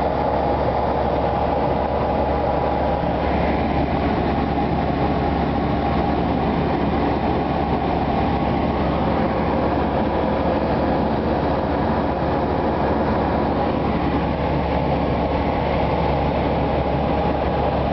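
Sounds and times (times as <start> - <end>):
light aircraft engine and propeller: 0.0 - 17.9.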